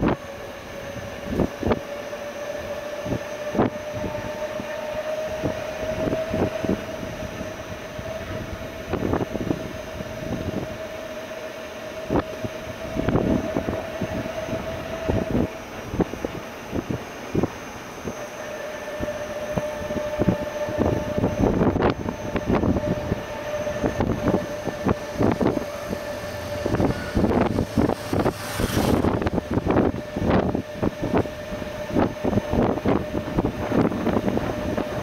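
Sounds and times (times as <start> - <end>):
electric train whine: 0.0 - 35.0.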